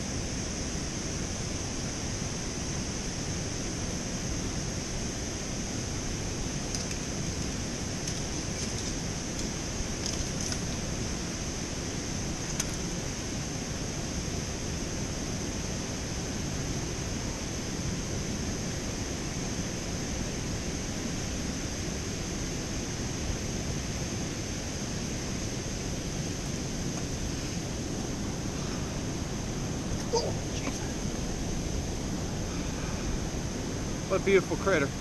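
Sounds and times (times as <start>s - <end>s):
steady rushing outdoor noise: 0.0s - 35.0s.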